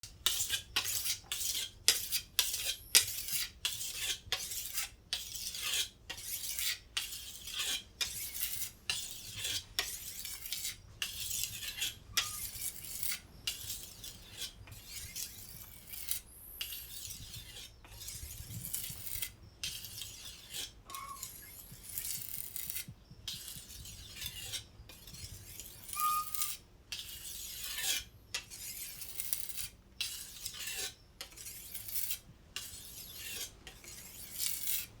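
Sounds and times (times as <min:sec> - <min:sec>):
knife scraping on sharpener: 0:00.0 - 0:35.0.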